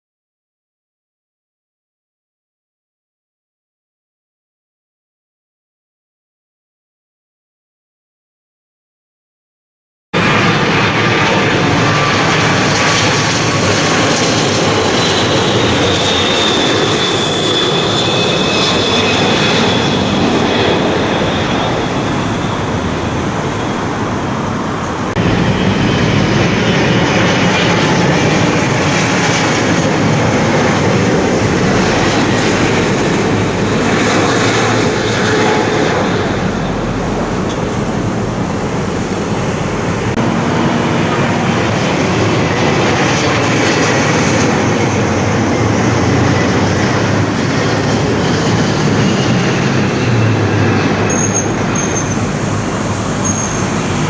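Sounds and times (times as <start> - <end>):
jet airliner passing overhead: 10.2 - 54.0
other aircraft engine noise: 10.2 - 54.0.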